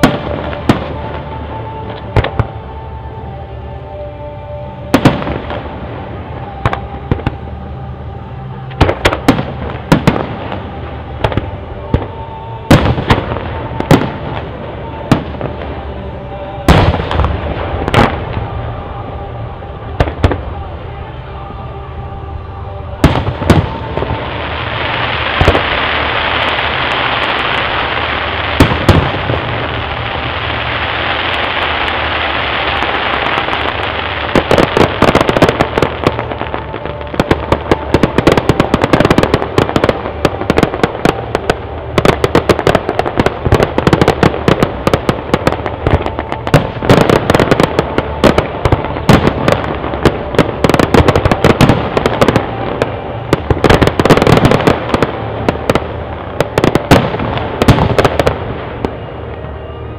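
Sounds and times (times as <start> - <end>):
firework crackling and popping: 0.0 - 2.7, 8.6 - 18.9, 23.0 - 59.7.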